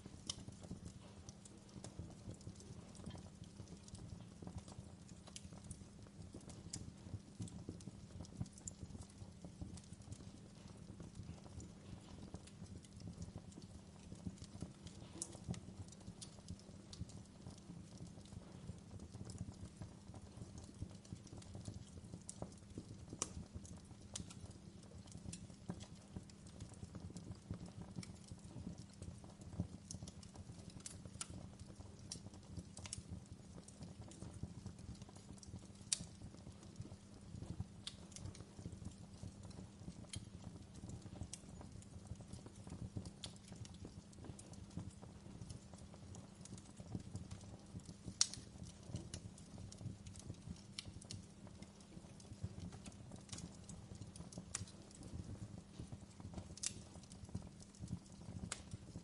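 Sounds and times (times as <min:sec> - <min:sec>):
fire flames rumbling: 0:00.0 - 0:59.0
wood fire popping and crackling: 0:00.0 - 0:59.0.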